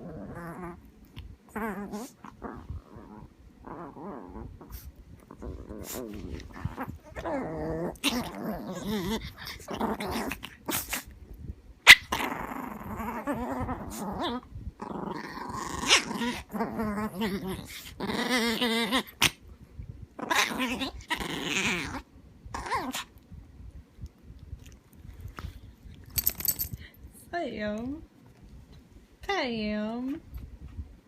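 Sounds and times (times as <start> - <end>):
small dogs play-growling: 0.0 - 26.8.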